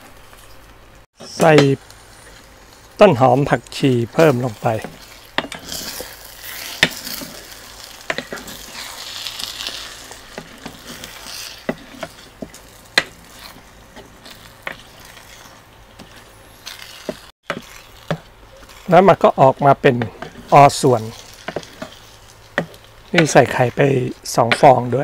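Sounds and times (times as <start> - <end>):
food sizzling in a pot: 0.0 - 25.0.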